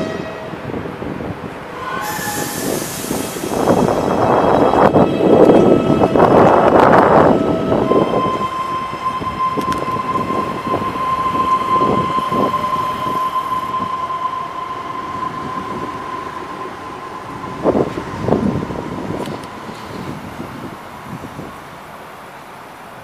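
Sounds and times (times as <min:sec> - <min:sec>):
electric train passing: 0:00.0 - 0:23.0.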